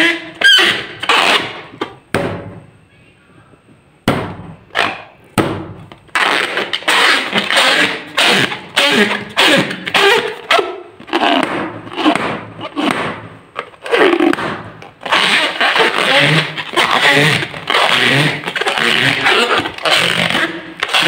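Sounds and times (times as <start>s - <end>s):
balloon rubber squeaking: 0.0s - 2.1s, 4.4s - 21.0s.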